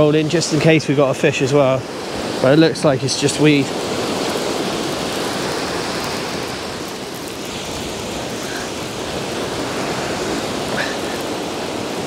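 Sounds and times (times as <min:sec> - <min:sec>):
surf washing onto shore: 0:00.0 - 0:12.0.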